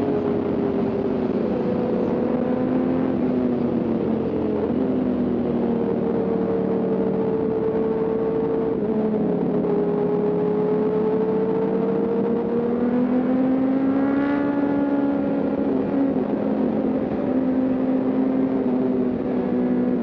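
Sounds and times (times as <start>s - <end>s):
motorcycle engine revving: 0.0s - 20.0s
wind noise: 0.0s - 20.0s.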